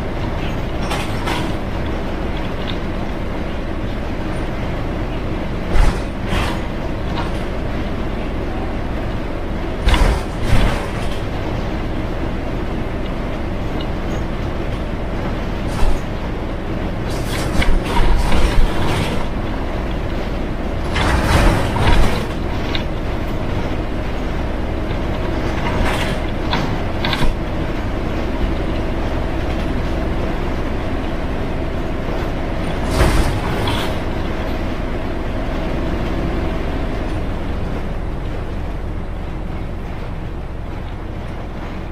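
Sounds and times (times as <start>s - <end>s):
bus body rattling and creaking: 0.0s - 41.9s
bus engine drone: 0.0s - 41.9s.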